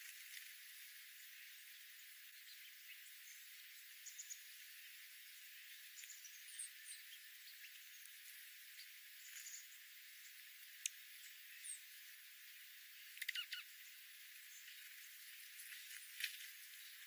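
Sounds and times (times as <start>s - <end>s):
small birds chirping: 0.0s - 17.0s
steady soft hiss: 0.0s - 17.0s.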